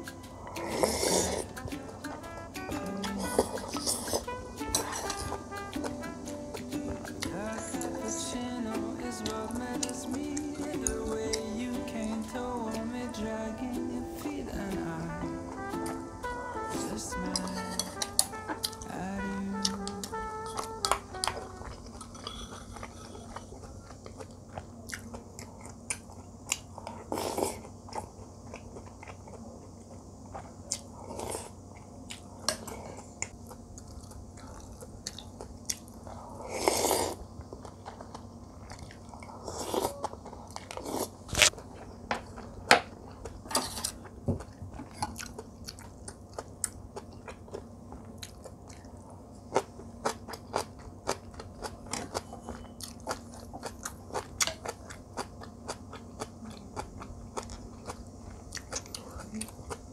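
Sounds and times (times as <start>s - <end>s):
person chewing and crunching food: 0.0s - 13.5s, 16.8s - 18.9s, 19.6s - 59.9s.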